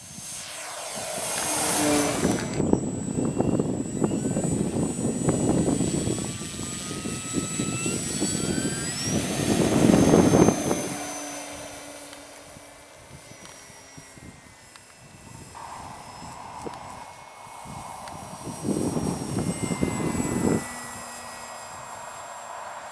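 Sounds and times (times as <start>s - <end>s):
electric motor and propeller whine: 0.0s - 22.9s.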